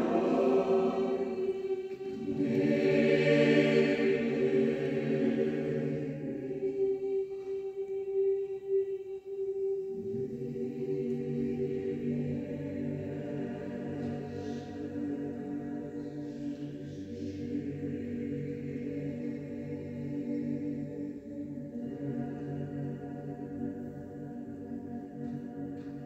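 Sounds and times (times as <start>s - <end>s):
choir singing unaccompanied: 0.0s - 26.0s.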